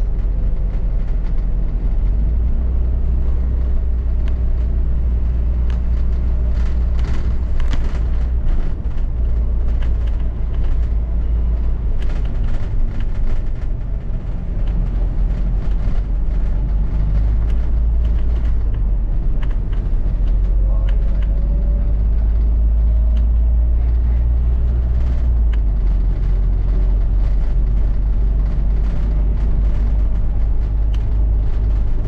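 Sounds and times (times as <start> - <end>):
bus engine and road rumble: 0.0 - 32.0
rattles and clicks: 0.0 - 32.0.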